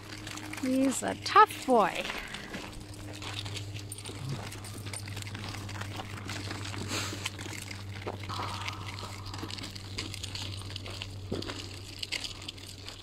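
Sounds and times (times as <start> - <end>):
footsteps crunching dry leaves: 0.0 - 13.0
steady low hum: 0.0 - 13.0.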